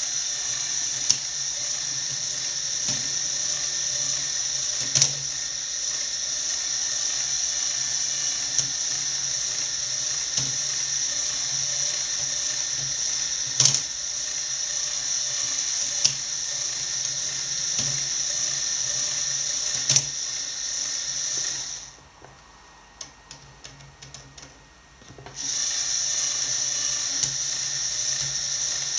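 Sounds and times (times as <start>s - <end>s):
motor and plastic gears whirring: 0.0s - 28.9s.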